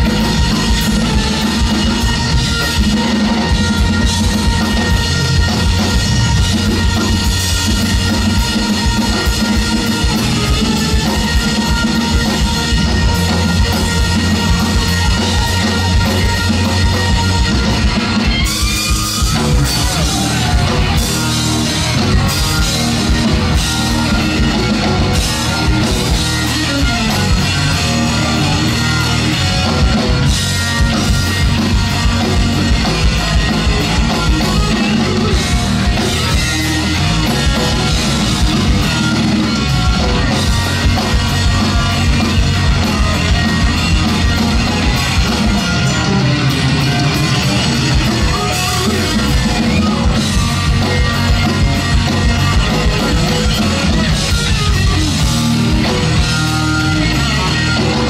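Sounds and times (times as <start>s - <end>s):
bass guitar: 0.0s - 58.0s
drum kit: 0.0s - 58.0s
electric guitar lead: 0.0s - 58.0s.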